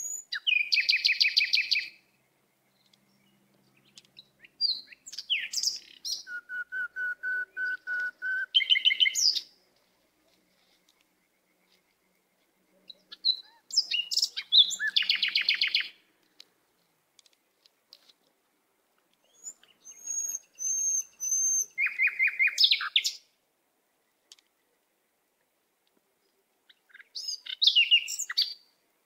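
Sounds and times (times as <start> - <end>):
bird chirping: 0.0 - 17.6, 19.1 - 25.2, 26.1 - 28.8.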